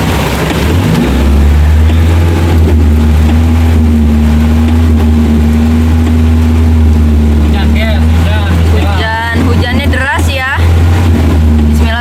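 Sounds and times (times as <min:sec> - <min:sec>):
engine running steady drone: 0:00.0 - 0:12.0.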